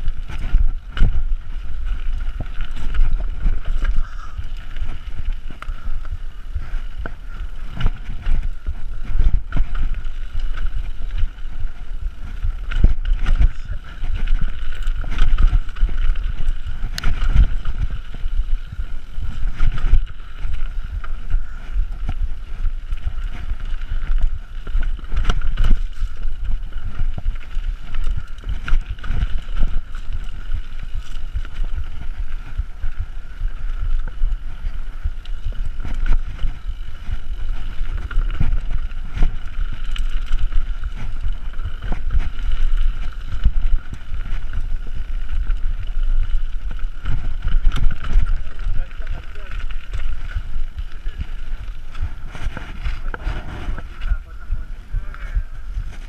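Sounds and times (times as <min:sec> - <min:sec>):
tyres rumbling over dirt: 0:00.0 - 0:56.0
wind buffeting microphone: 0:00.0 - 0:56.0
bike knocks and rattles: 0:00.1 - 0:54.2.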